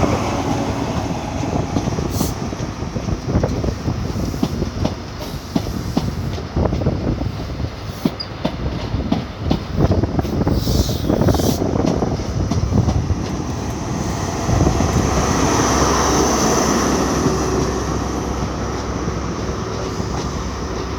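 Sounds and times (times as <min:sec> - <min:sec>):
train wheels clattering: 0:00.0 - 0:20.9.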